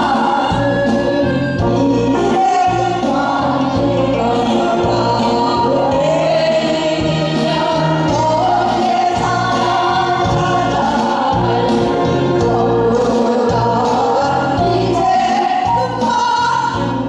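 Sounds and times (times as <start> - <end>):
amplified accompaniment with bass: 0.0 - 17.0
two women singing folk song: 0.0 - 17.0.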